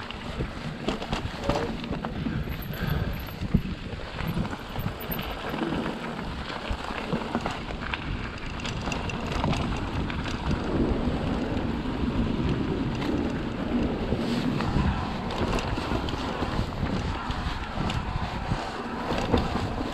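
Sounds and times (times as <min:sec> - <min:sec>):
bike rattles and knocks: 0:00.0 - 0:19.9
bike tyres rolling over gravel: 0:00.0 - 0:19.9
wind buffeting microphone: 0:00.0 - 0:19.9.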